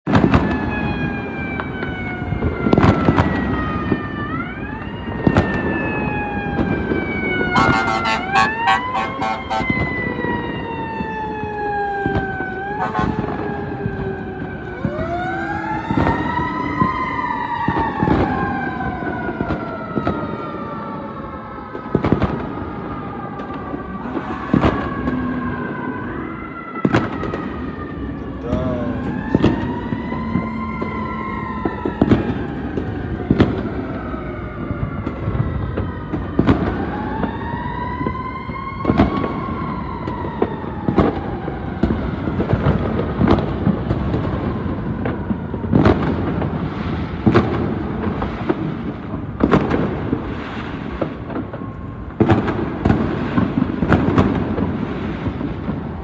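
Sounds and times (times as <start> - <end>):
emergency siren wailing: 0.1 - 56.0.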